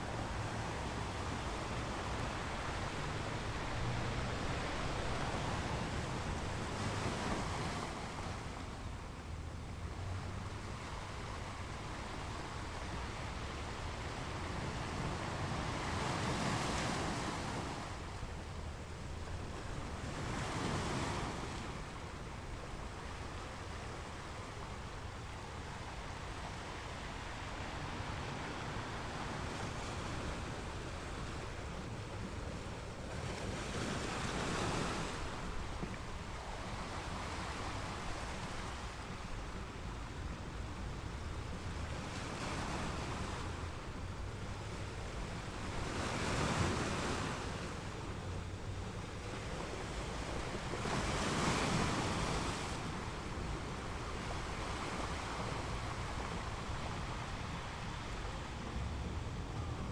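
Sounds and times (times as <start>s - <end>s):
low rumble of surf: 0.0s - 59.9s
ocean waves breaking on beach: 0.0s - 59.9s.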